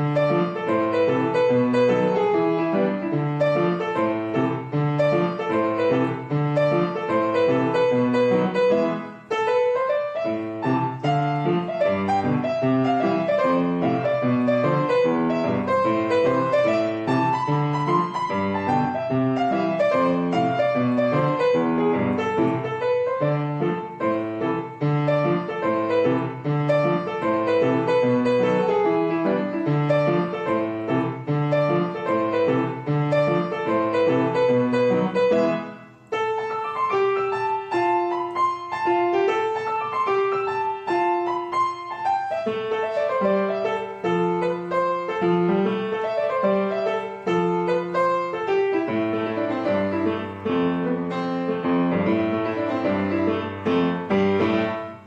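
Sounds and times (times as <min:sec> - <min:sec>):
piano piece: 0:00.0 - 0:55.0.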